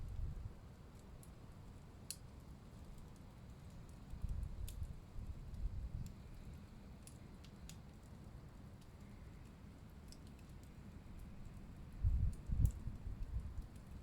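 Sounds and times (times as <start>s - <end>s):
low rumble of burning: 0.0s - 14.0s
wood fire crackling: 0.0s - 14.0s.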